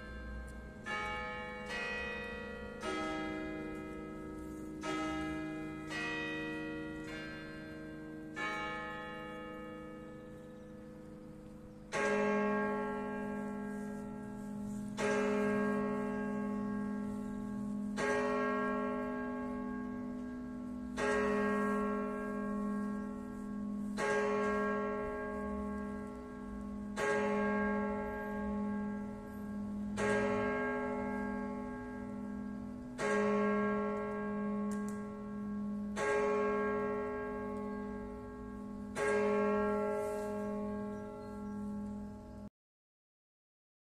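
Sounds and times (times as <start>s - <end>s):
church clock bell striking: 0.0s - 42.5s.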